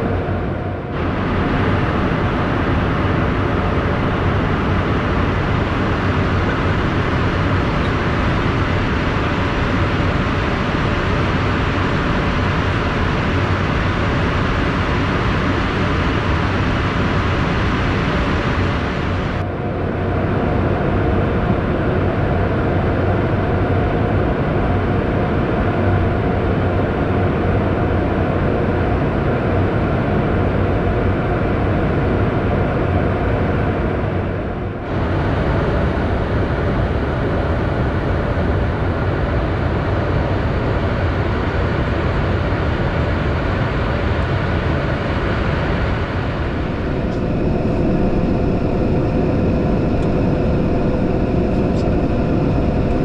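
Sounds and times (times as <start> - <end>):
aircraft engine and airflow drone: 0.0 - 53.0.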